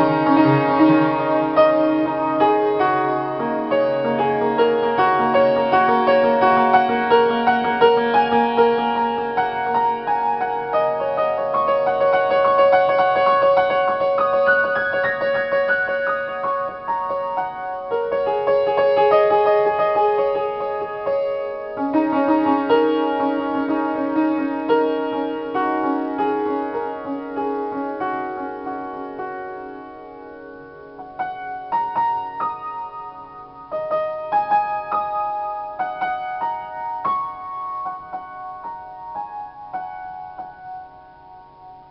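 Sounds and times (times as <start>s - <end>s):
upright piano improvisation: 0.0s - 41.9s.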